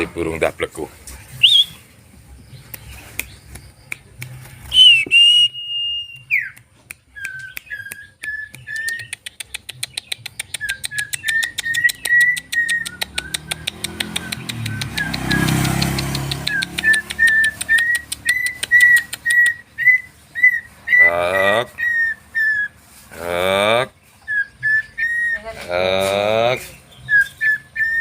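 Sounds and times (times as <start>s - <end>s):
bird-like whistling: 1.4s - 1.9s, 2.7s - 22.8s, 24.2s - 25.5s, 26.9s - 28.0s.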